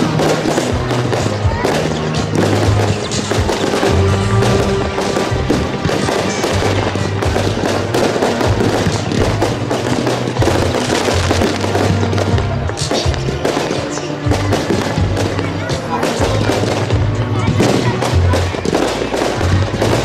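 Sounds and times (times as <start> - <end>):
fireworks bursting rapidly: 0.0 - 20.0
music playing: 0.0 - 20.0.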